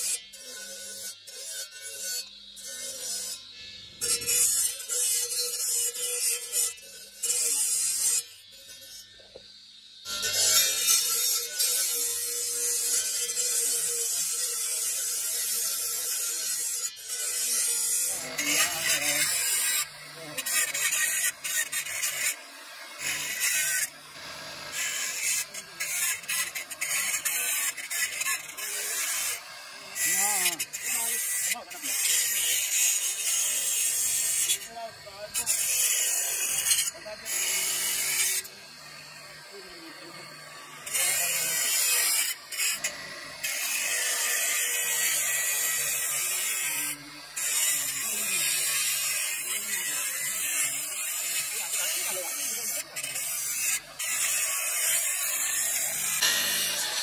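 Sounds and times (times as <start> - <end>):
stone grinding on abrasive disc: 0.0 - 9.4, 10.1 - 57.0.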